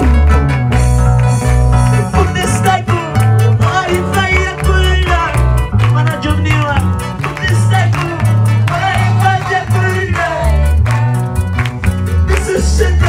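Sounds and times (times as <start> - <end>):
guitar melody: 0.0 - 13.0
heavy bass notes: 0.0 - 13.0
steady drum beat: 0.0 - 13.0.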